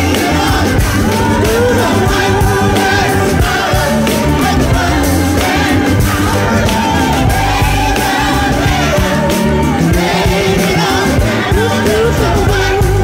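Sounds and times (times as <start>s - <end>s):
gospel choir singing: 0.0s - 13.0s
rock band playing: 0.0s - 13.0s
woman singing lead: 0.0s - 13.0s.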